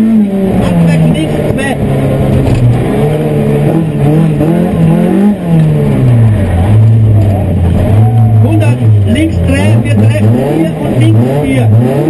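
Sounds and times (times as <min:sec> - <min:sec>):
car engine revving from cabin: 0:00.0 - 0:12.0.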